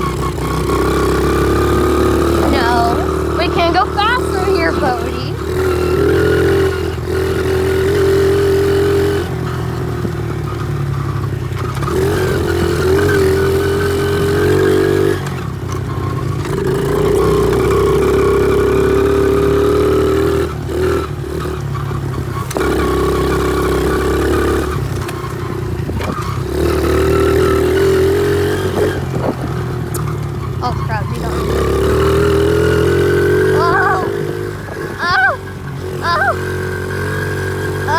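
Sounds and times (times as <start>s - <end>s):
motorbike engine revving: 0.0s - 37.9s.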